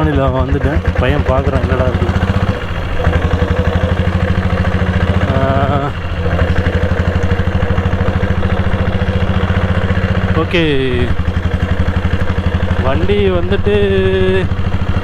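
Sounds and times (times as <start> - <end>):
motorcycle engine thumping: 0.0 - 15.0.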